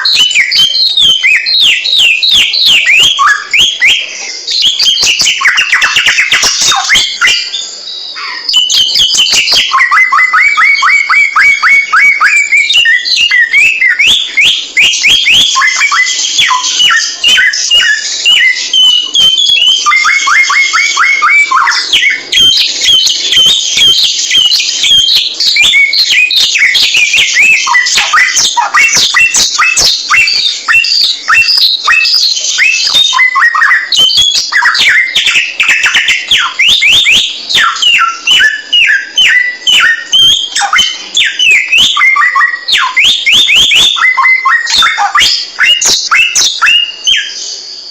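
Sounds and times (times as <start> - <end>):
songbird singing whistles: 0.0 - 47.9.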